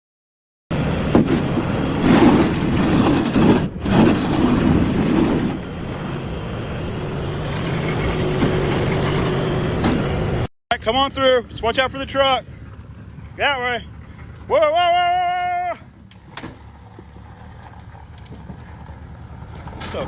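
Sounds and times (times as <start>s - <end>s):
heavy equipment engine running: 0.7s - 20.0s.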